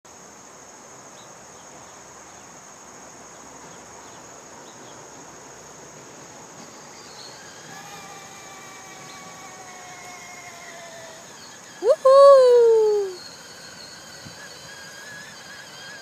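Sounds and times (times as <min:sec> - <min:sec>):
background hiss: 0:00.1 - 0:16.0
insects chirring: 0:00.1 - 0:16.0
steady multi-tone hum: 0:00.1 - 0:16.0.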